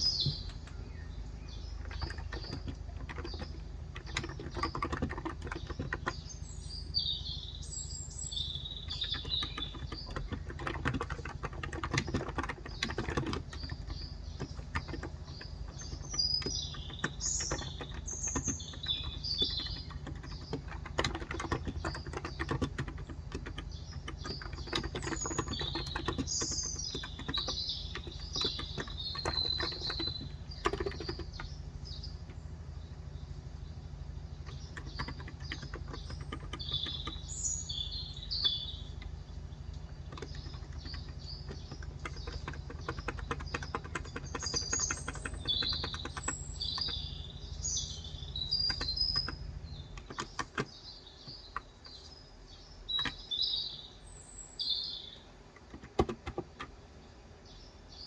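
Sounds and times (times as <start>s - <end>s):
small birds chirping: 0.0s - 58.0s
fast typing on a keyboard: 1.6s - 32.4s, 34.4s - 52.0s, 52.9s - 53.5s, 55.6s - 56.8s.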